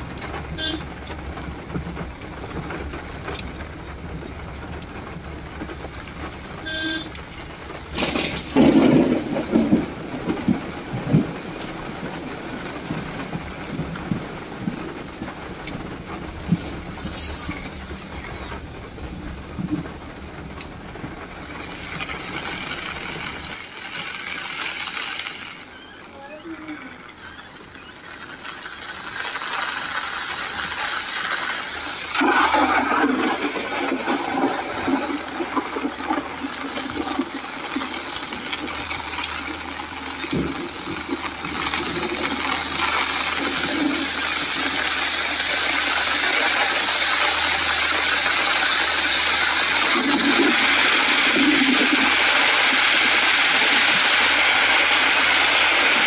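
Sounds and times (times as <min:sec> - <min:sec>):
rain on car roof: 0:00.0 - 0:56.0.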